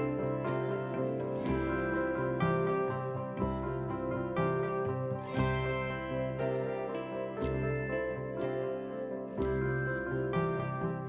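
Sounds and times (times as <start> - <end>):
gentle plucked-string and keyboard music: 0.0 - 11.0.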